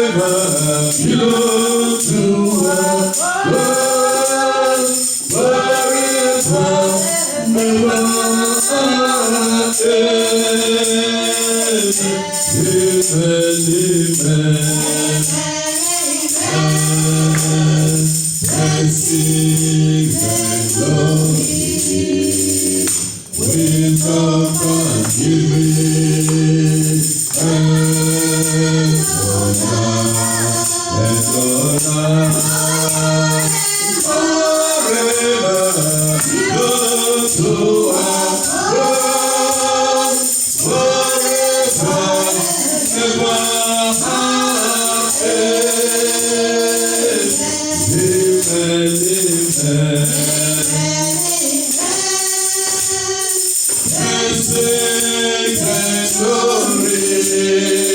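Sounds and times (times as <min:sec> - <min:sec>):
gospel choir singing: 0:00.0 - 0:57.9
tambourine beat: 0:00.0 - 0:57.9.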